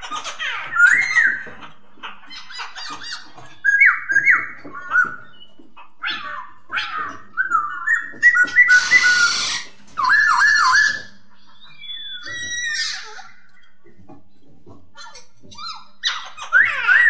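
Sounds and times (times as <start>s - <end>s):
bird harsh chatter calls: 0.0s - 17.0s.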